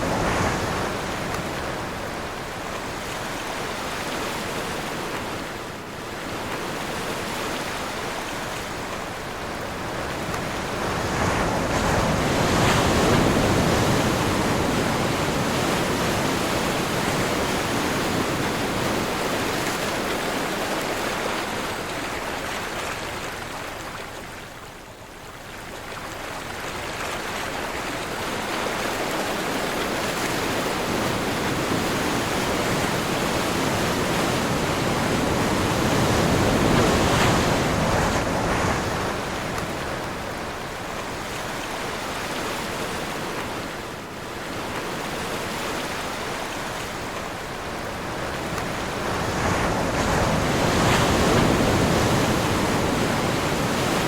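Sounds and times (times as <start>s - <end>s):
waves breaking and washing in: 0.0s - 54.0s
wind: 0.0s - 54.0s.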